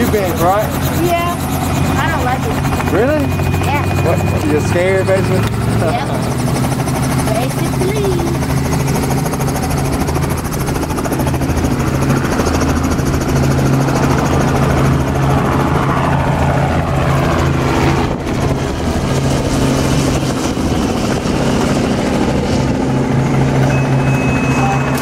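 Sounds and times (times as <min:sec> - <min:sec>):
helicopter engine and rotors: 0:00.0 - 0:25.0.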